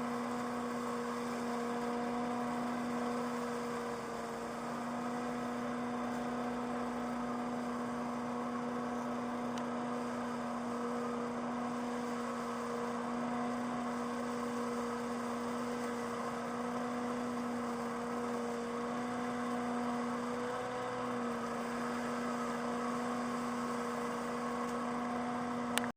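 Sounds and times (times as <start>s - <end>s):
leaf vacuum motor hum: 0.0s - 25.9s.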